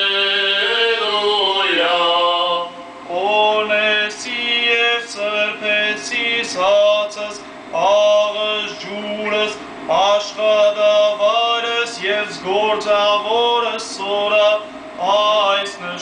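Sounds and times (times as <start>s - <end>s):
man chanting a hymn: 0.0s - 16.0s.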